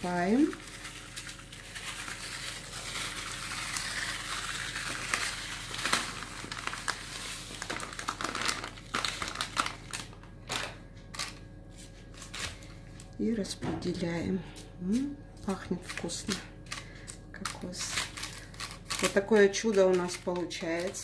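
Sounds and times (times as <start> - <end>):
packet crinkling and rustling: 0.0 - 13.1, 15.8 - 21.0.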